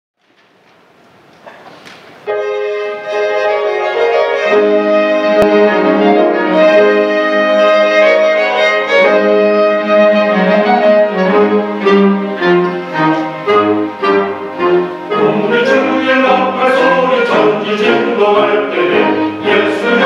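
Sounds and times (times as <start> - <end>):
violins playing sustained notes: 2.3 - 20.0.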